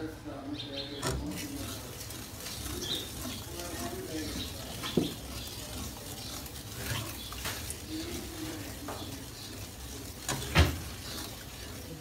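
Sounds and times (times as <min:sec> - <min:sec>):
spatula stirring semolina: 0:01.2 - 0:12.0
spatula scraping metal pan: 0:01.3 - 0:12.0.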